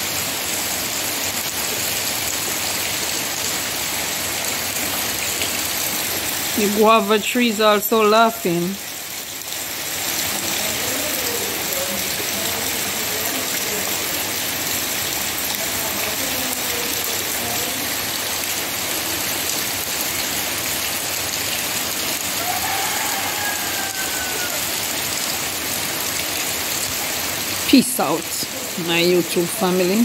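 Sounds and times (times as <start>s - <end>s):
rain on leaves: 0.0s - 30.0s.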